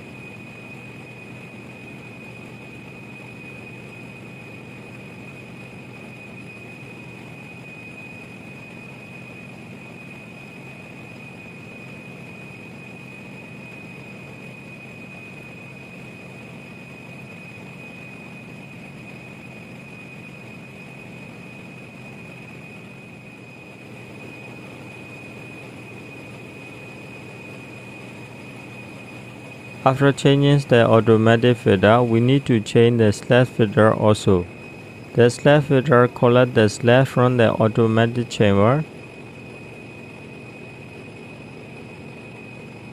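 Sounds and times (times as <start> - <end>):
high-pitched whine: 0.0 - 42.9.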